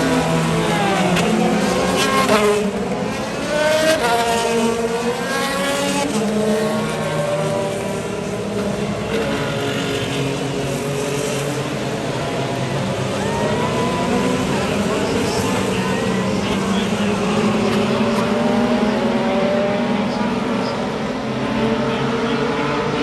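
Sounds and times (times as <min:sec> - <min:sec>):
race car engines revving: 0:00.0 - 0:23.0
race cars passing: 0:00.0 - 0:23.0.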